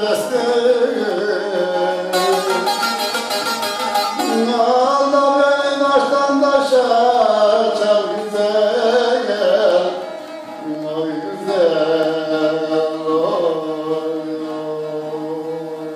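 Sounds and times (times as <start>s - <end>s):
man singing: 0.0s - 3.1s, 4.1s - 15.9s
strummed lute folk tune: 0.0s - 15.9s.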